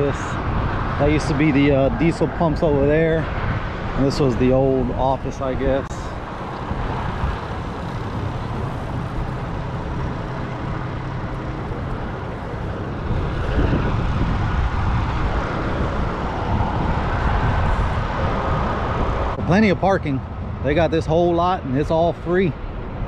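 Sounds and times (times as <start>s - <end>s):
road noise rumble: 0.0s - 23.0s
vehicle engine hum: 0.0s - 23.0s.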